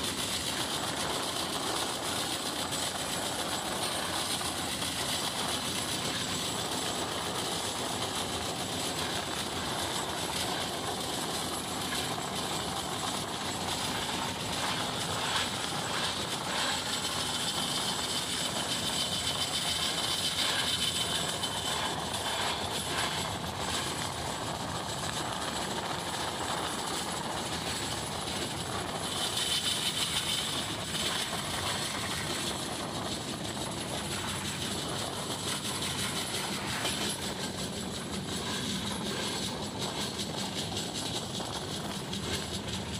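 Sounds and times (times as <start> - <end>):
wheel-on-rail noise: 0.0 - 42.9.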